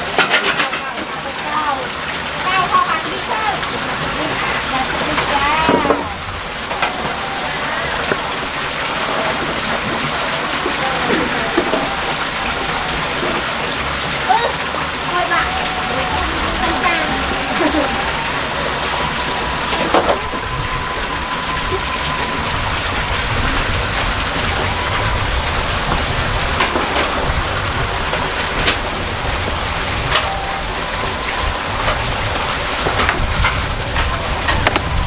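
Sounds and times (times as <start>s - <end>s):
rain-like hiss: 0.0s - 35.0s.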